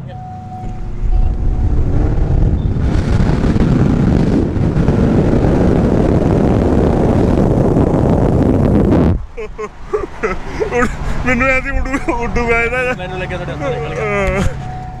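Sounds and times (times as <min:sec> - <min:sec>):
car engine accelerating: 0:00.0 - 0:09.1, 0:10.1 - 0:15.0
wind rush on microphone: 0:00.6 - 0:12.7.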